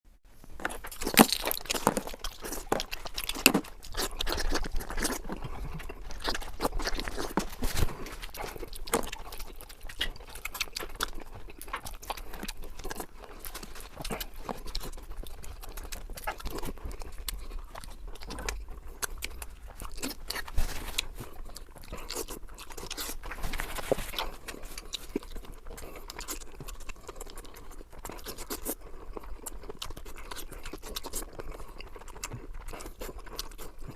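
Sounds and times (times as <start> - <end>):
chewing with crunches: 0.3 - 33.9.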